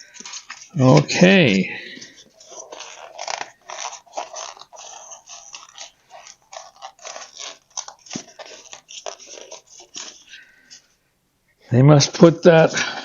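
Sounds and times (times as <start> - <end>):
styrofoam crunching and scraping: 0.0 - 10.8.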